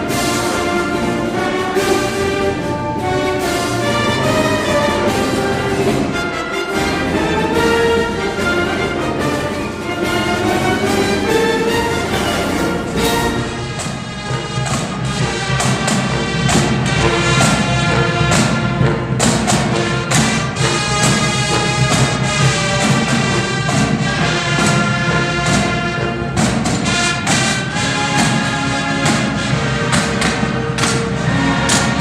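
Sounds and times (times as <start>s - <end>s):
brass band music: 0.0s - 32.0s
drum beat: 0.0s - 32.0s.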